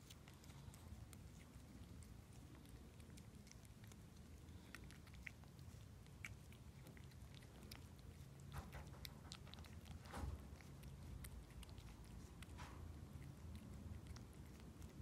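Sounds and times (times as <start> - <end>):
cat licking: 0.0 - 15.0.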